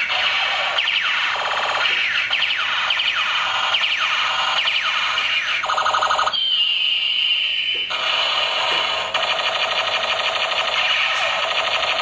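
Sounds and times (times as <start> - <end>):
toy gun electronic zaps: 0.0 - 12.0.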